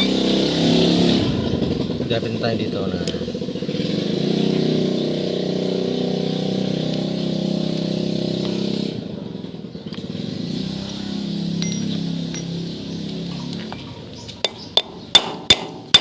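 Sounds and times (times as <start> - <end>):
small engine running: 0.0 - 13.7.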